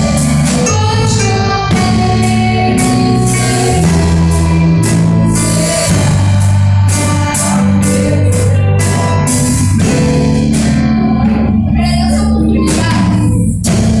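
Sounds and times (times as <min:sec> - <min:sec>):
band playing a hymn: 0:00.0 - 0:14.0
guitar: 0:00.0 - 0:14.0
steady drum beat: 0:00.0 - 0:14.0
sustained bass notes: 0:00.0 - 0:14.0.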